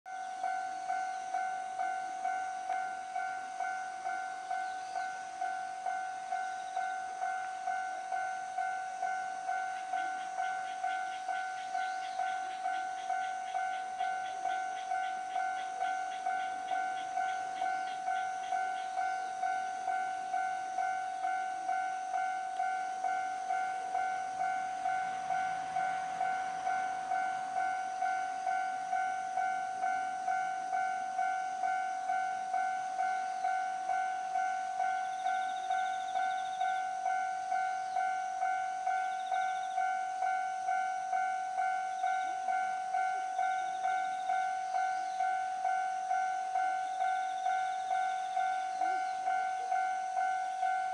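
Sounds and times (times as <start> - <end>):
electric train passing: 0.1 - 50.9
level crossing bell ringing: 0.2 - 50.9.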